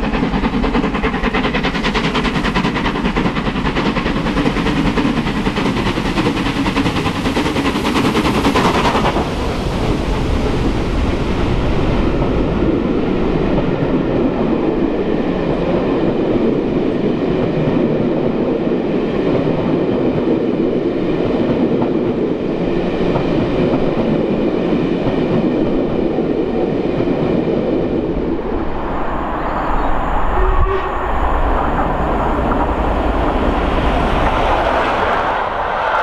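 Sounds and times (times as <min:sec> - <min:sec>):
steam locomotive passing: 0:00.0 - 0:36.0
train rumbling past on rails: 0:00.0 - 0:36.0.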